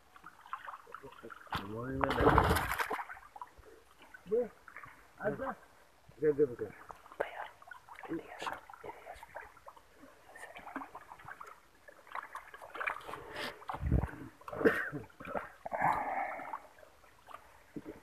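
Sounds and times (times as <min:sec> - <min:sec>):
muddy water sloshing and splashing: 0:00.0 - 0:05.8, 0:06.7 - 0:18.0.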